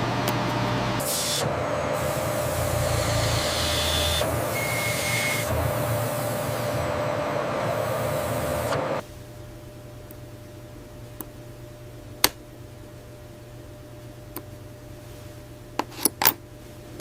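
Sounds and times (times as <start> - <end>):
machine hiss and low hum: 0.0 - 17.0.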